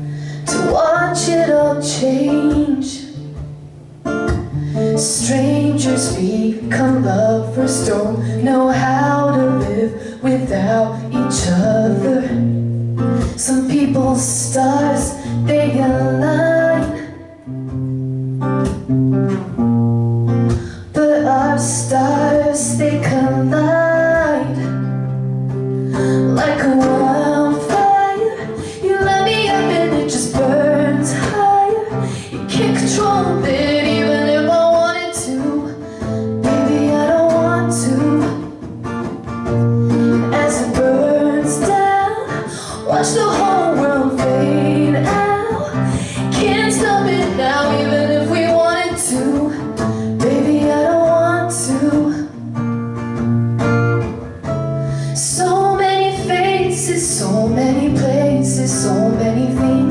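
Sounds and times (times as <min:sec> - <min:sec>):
woman singing: 0:00.0 - 0:18.0, 0:20.5 - 0:52.6, 0:54.0 - 0:59.9
strummed guitar: 0:00.0 - 0:59.9.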